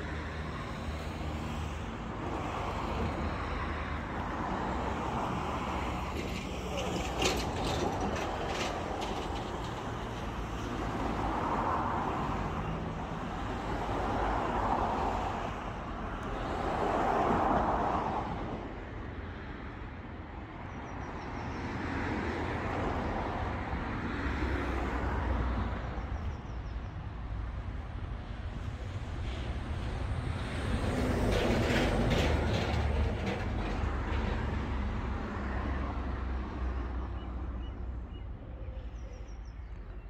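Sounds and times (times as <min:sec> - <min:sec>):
cars passing by: 0:00.0 - 0:40.0
low traffic rumble: 0:00.0 - 0:40.0.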